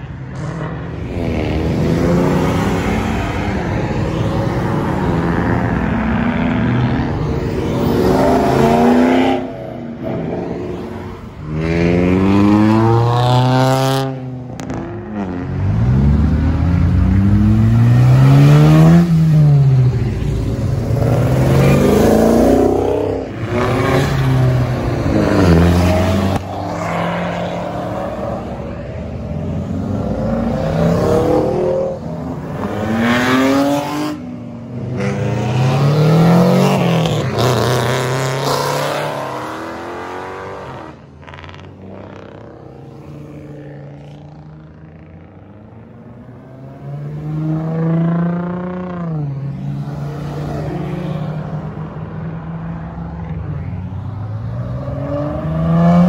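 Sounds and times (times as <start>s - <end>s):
cars accelerating past: 0.0s - 56.0s.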